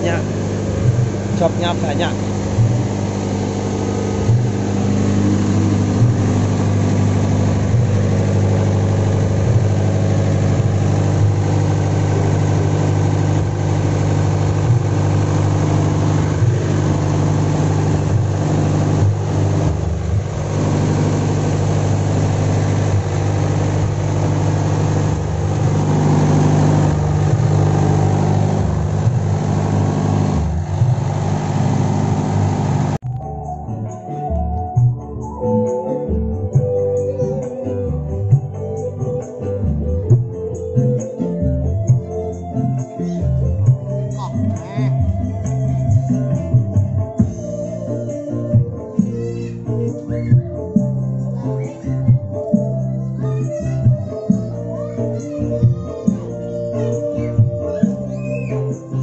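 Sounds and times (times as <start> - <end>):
diesel generator running: 0.0 - 33.1, 36.1 - 59.0.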